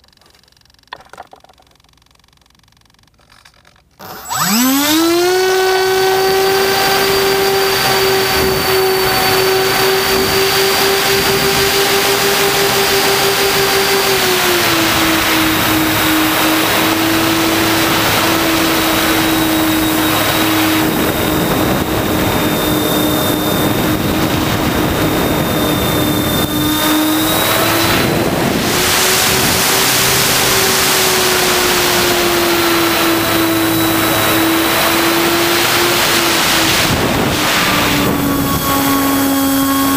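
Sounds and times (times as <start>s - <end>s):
model airplane motor whine: 0.0s - 39.9s
wind rushing on microphone: 4.3s - 39.9s.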